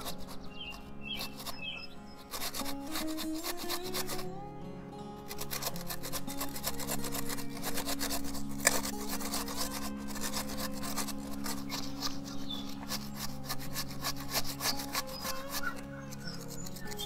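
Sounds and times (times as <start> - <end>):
potato rasping on grater: 0.0 - 4.3, 5.2 - 17.0.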